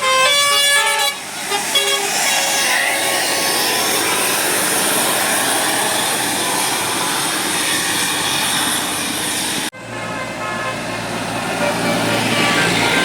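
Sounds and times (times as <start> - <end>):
bus driving past: 0.0 - 13.0.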